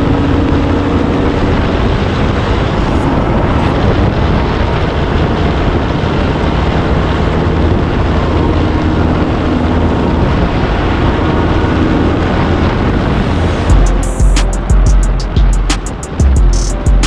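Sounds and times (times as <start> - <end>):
diesel truck engine drone: 0.0 - 17.0
road and wind noise: 0.0 - 17.0.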